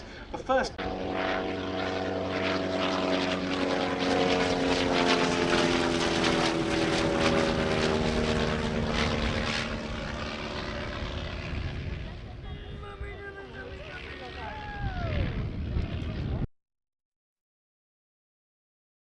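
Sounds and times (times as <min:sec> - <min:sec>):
aircraft rotary engine passing by: 0:00.0 - 0:16.5.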